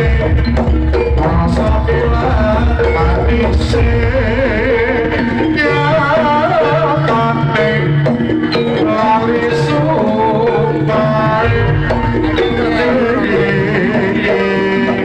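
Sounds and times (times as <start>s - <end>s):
gamelan ensemble music: 0.0s - 15.0s
hand drums beating: 0.0s - 15.0s.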